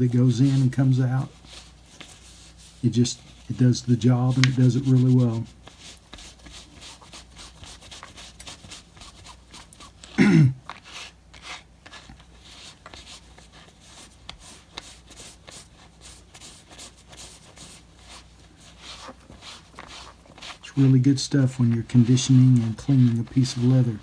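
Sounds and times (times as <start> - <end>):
cloth rubbing leather: 0.0 - 24.0.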